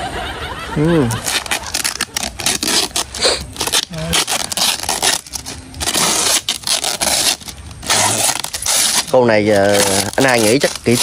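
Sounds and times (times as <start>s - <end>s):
plastic wrapping crinkling and ripping: 1.1s - 11.0s.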